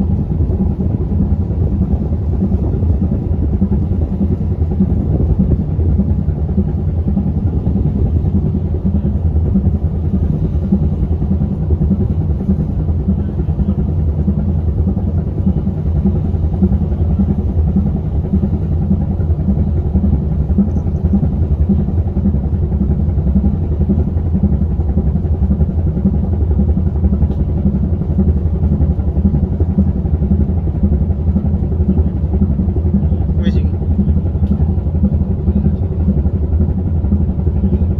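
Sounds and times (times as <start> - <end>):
diesel engines rumbling: 0.0 - 37.9.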